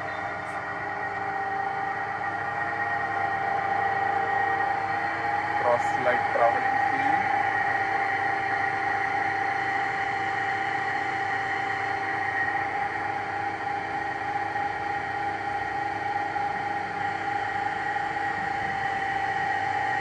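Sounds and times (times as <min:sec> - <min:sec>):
lathe humming with high whine: 0:00.0 - 0:20.0.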